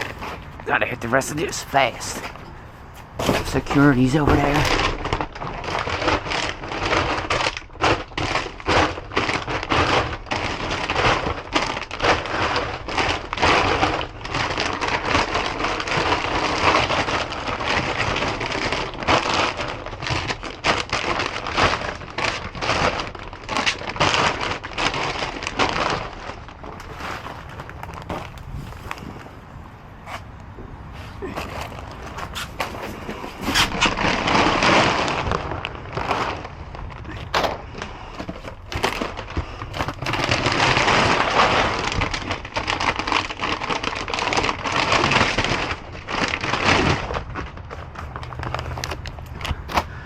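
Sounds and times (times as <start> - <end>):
small knocks and crunches: 0.0 - 50.0
trash bags rustling: 0.0 - 50.0.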